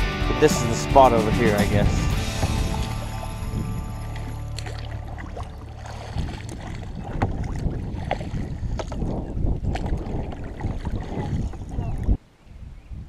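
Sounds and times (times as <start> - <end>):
wind rumbling on microphone: 1.4 - 13.0.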